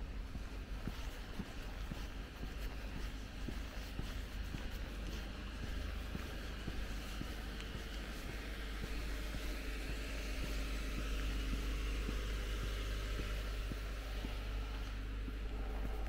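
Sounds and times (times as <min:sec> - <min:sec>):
street traffic hum: 0:00.0 - 0:16.0.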